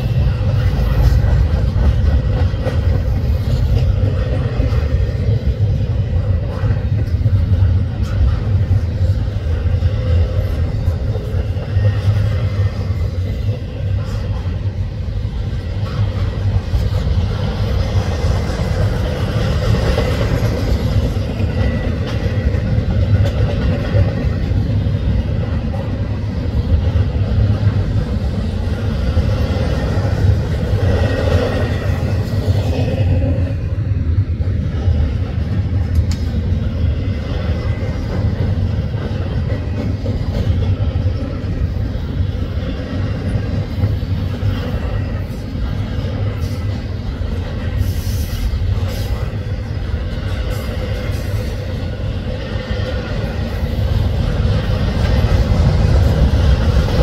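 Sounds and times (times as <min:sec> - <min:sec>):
steel wheels rumbling on rail: 0:00.0 - 0:57.0.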